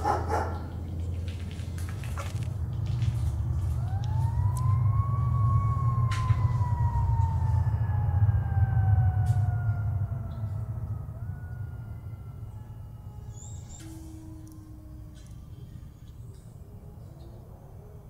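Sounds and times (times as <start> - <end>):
steady low rumble: 0.0 - 18.0
siren-like wail: 2.4 - 18.0.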